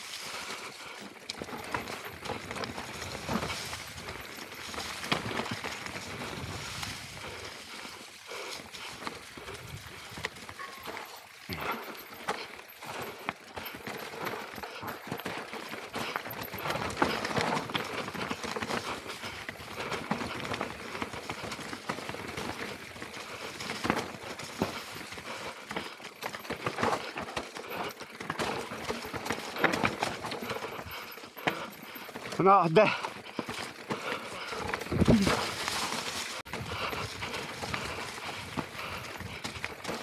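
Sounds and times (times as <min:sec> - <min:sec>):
tyres crunching over stones: 0:00.0 - 0:40.0
bike knocking and rattling: 0:00.2 - 0:40.0.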